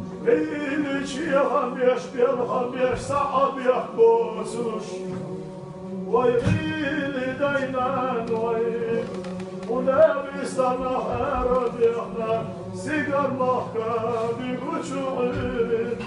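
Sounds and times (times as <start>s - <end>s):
man chanting: 0.2s - 5.2s, 6.1s - 16.0s.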